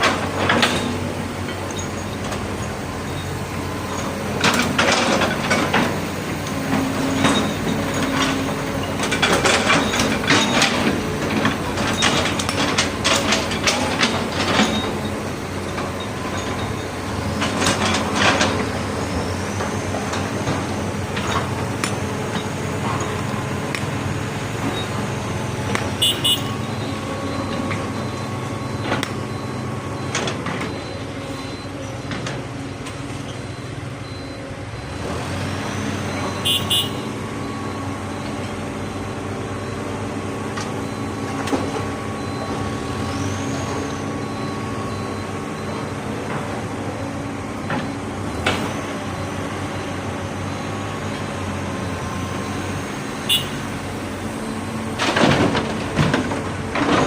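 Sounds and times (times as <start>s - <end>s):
diesel machinery running: 0.0s - 57.0s.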